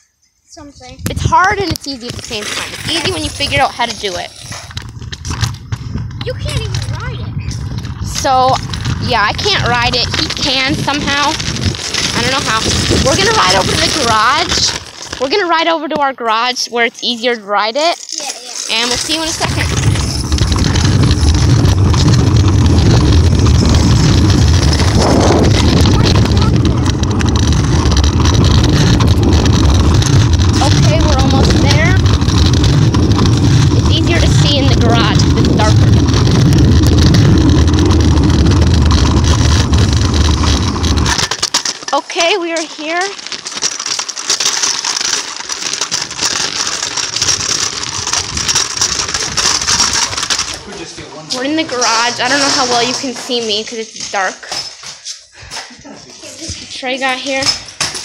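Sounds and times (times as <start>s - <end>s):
scooter wheels rumbling on asphalt: 0.6s - 55.1s, 56.1s - 58.0s
phone microphone handling crackle: 0.9s - 50.7s.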